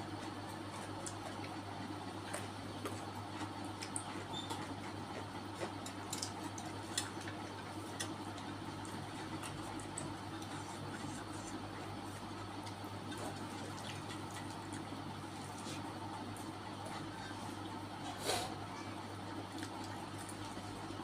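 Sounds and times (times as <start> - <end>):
close chewing with mouth clicks: 0.0 - 21.0
steady low hum: 0.0 - 21.0.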